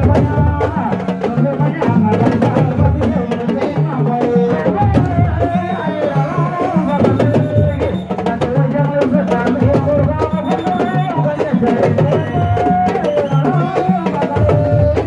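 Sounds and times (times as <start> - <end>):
drums beating fast rhythm: 0.0 - 15.0
voices singing: 0.0 - 15.0.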